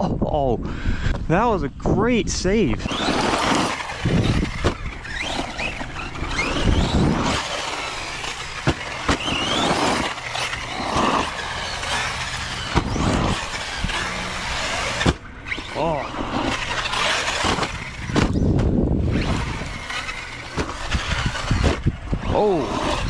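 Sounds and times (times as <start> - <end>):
rc truck electric motor whining: 2.7 - 23.0.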